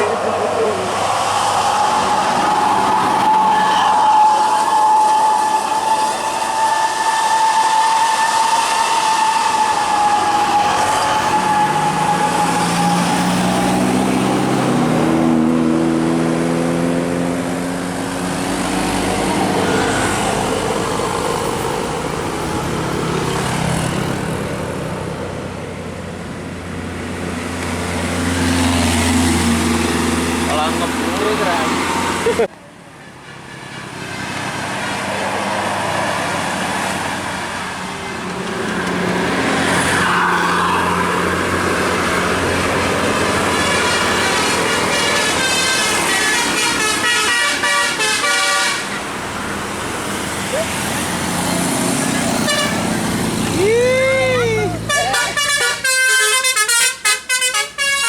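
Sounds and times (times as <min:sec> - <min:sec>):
vehicle engines passing: 0:00.0 - 0:58.0.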